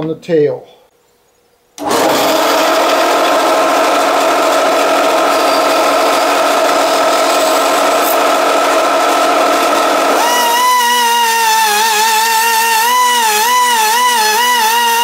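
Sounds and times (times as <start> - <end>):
band saw cutting wood: 1.8 - 15.0.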